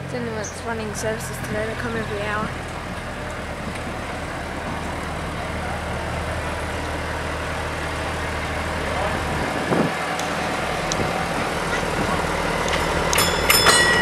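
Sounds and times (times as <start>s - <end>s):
tram engine low hum: 0.0s - 14.0s.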